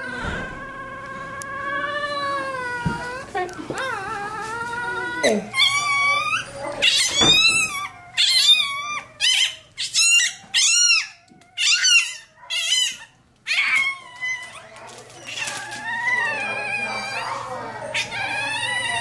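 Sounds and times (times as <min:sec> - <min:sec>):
puppy crying: 0:00.0 - 0:19.0.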